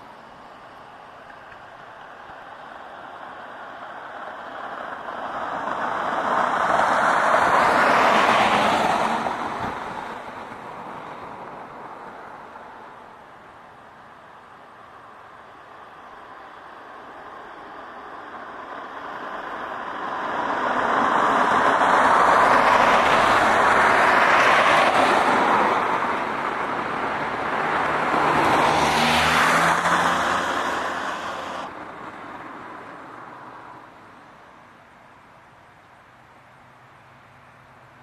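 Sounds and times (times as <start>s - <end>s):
road vehicles passing: 0.0s - 38.0s.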